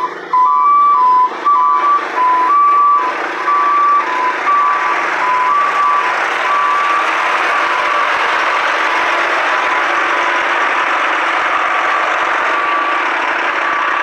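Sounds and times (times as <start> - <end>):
two-tone reversing alarm beeping: 0.0 - 10.7, 11.3 - 14.0
working machinery noise: 0.0 - 14.0.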